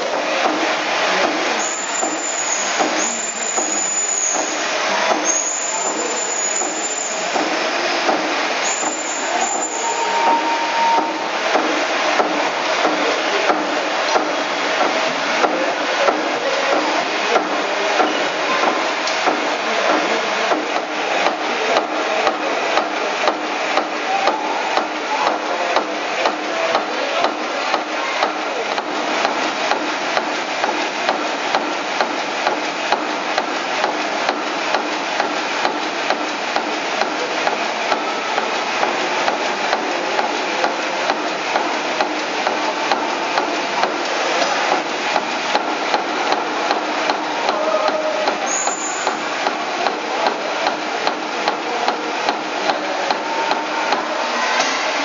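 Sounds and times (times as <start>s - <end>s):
steam engine clattering: 0.0s - 55.0s.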